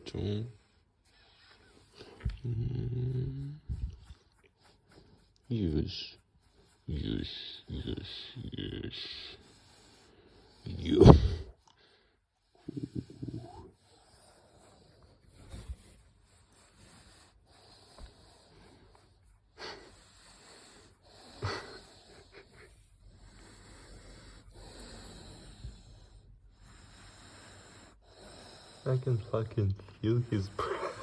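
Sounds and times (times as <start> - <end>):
dog snoring and wheezing: 0.0 - 31.0.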